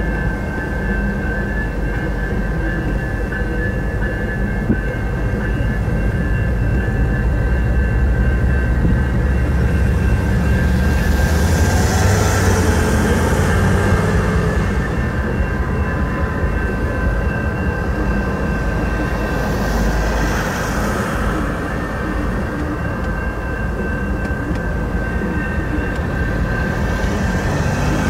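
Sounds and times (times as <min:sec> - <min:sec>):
crossing bell ringing: 0:00.0 - 0:28.0
train wheels rumbling on rail: 0:00.0 - 0:28.0.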